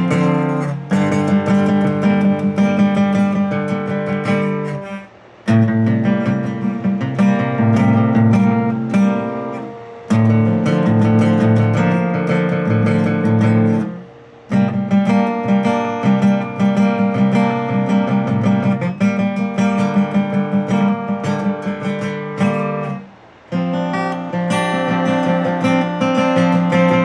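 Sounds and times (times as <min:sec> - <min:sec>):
acoustic guitar strumming: 0:00.0 - 0:27.0.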